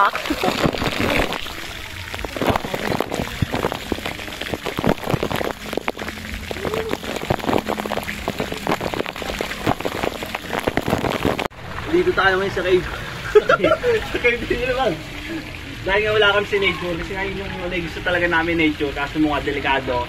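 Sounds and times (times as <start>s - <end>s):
water pouring from spout: 0.0s - 20.0s.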